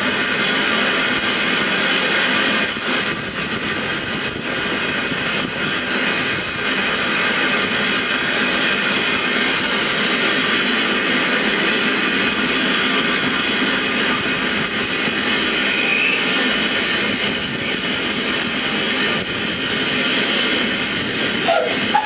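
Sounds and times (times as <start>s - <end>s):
locomotive steam hissing: 0.0s - 22.0s.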